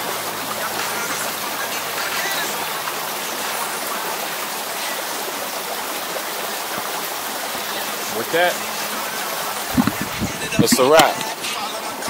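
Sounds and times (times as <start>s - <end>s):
creek running over stones: 0.0s - 12.0s.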